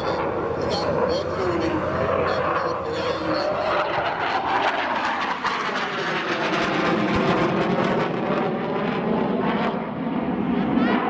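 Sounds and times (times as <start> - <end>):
jet engine noise overhead: 0.0 - 11.0.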